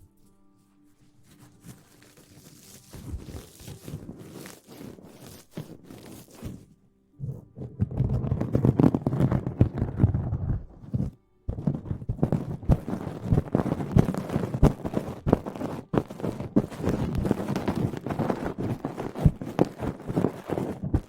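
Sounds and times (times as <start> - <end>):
close rustling and scratching: 0.0 - 21.0.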